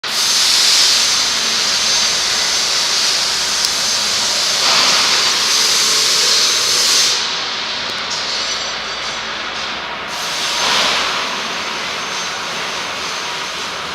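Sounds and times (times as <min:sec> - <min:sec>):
rebar cutting machine hissing: 0:00.0 - 0:13.9.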